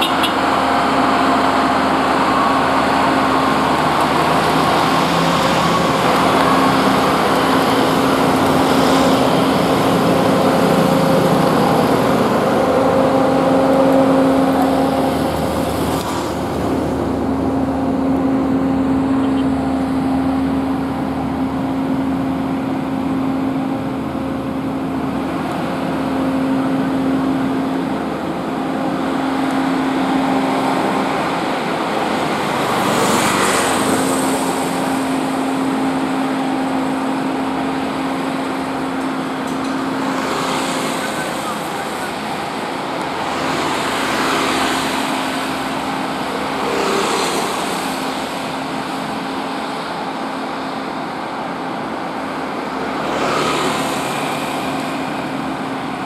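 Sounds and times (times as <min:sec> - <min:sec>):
diesel engines humming: 0:00.0 - 0:56.0
motorbike traffic passing: 0:00.0 - 0:56.0.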